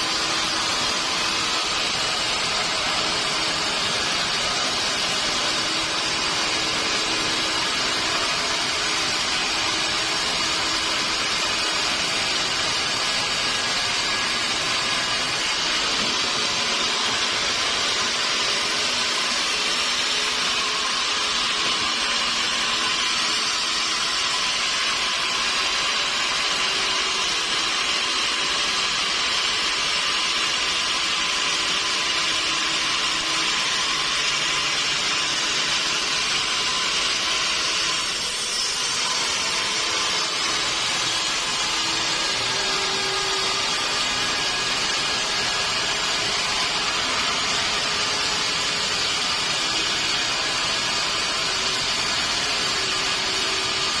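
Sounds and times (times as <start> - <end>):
sawmill saw cutting log: 0.0 - 54.0.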